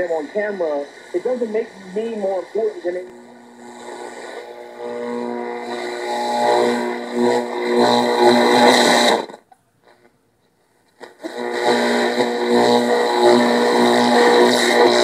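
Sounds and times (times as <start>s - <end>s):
music from portable radio: 0.0s - 15.0s.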